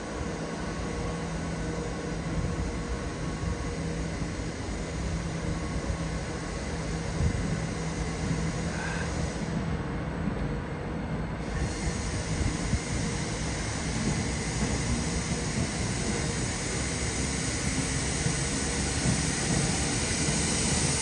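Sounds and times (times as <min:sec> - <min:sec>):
train running: 0:00.0 - 0:21.0.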